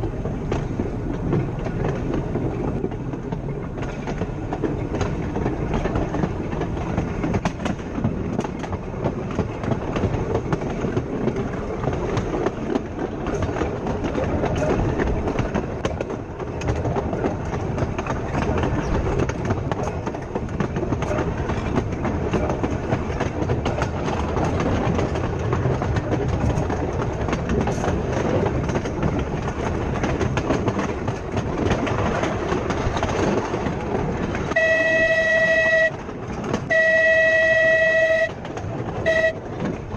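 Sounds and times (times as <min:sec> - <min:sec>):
tram wheels rumbling on rails: 0:00.0 - 0:39.9
wheels clicking and clacking: 0:00.0 - 0:39.9.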